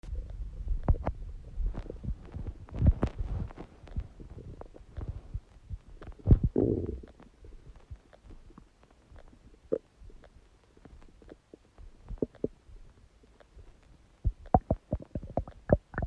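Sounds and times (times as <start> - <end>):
stomach gurgling: 0.0 - 16.0.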